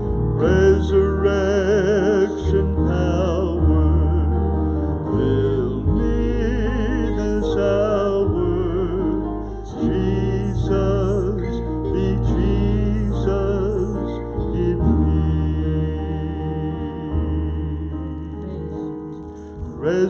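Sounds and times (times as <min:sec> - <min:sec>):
keyboard accompaniment: 0:00.0 - 0:20.0
person singing with vibrato: 0:00.0 - 0:20.0
steady bass: 0:00.0 - 0:20.0.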